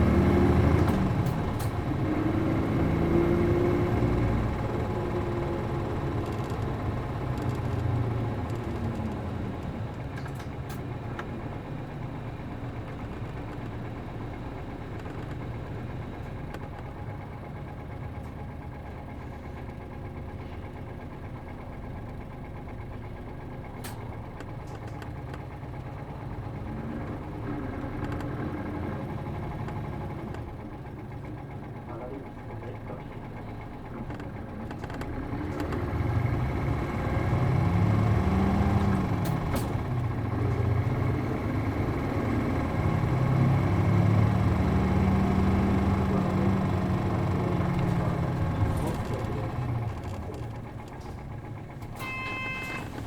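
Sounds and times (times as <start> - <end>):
diesel bus engine idling: 0.0 - 53.0.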